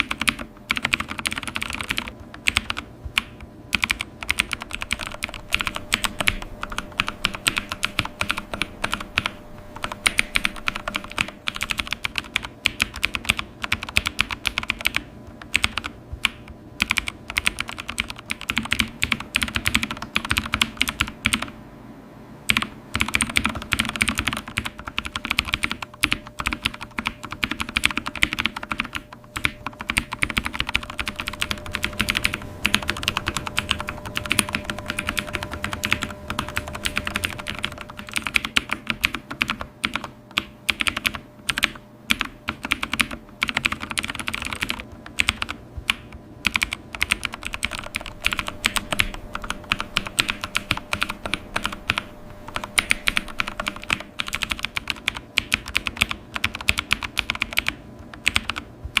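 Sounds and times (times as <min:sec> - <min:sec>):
fast typing on computer keyboard: 0:00.0 - 0:21.6, 0:22.5 - 0:59.0.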